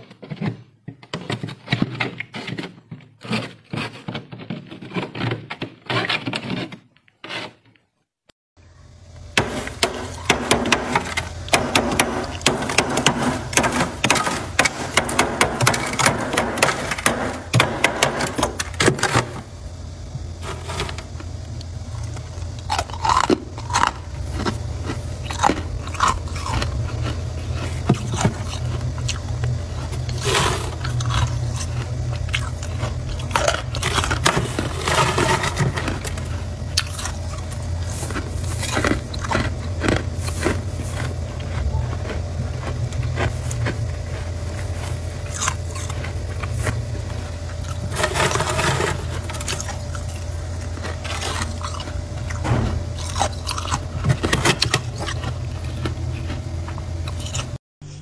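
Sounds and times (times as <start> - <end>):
steady low hum: 8.6 - 58.0
frost crackling: 9.3 - 57.6.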